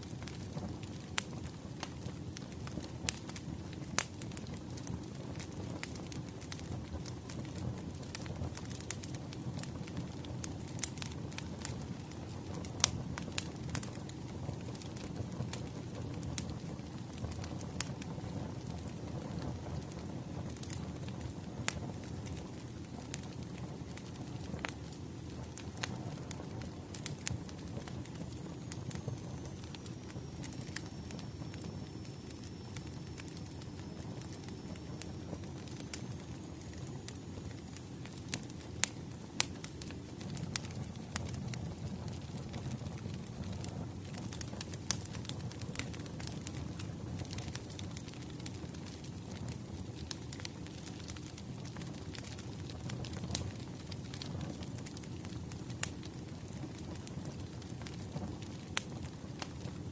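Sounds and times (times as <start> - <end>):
fire rushing: 0.0 - 59.8
firewood crackling and popping: 0.0 - 59.9.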